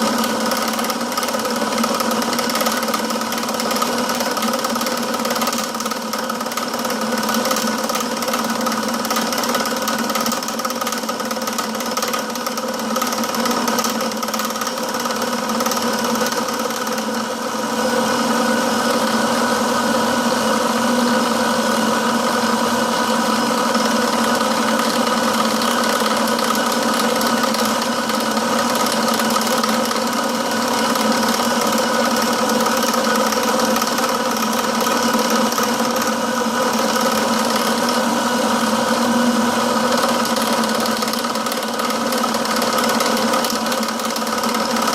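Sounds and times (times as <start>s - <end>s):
machine tool cutting steel: 0.0s - 17.2s, 23.5s - 38.2s, 39.8s - 44.9s.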